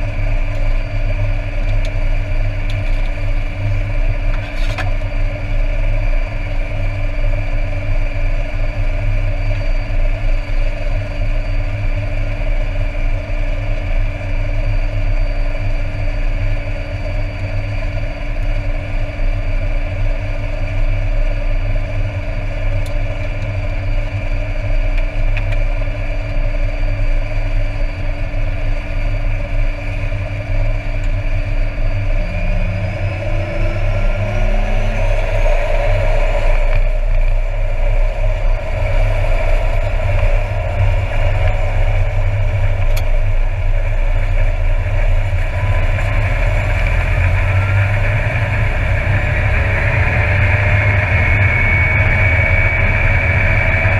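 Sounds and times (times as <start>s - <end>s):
high turbine whine: 0.0s - 53.9s
propeller drone: 0.0s - 53.9s.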